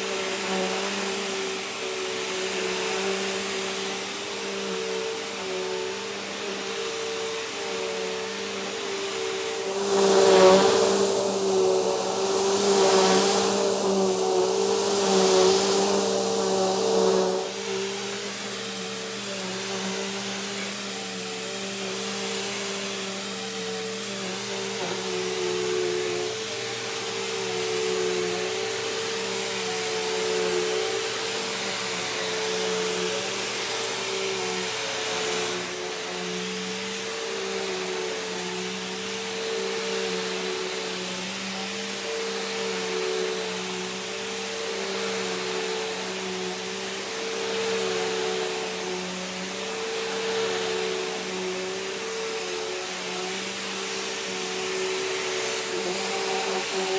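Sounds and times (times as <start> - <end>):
vacuum cleaner motor whine: 0.0 - 56.9.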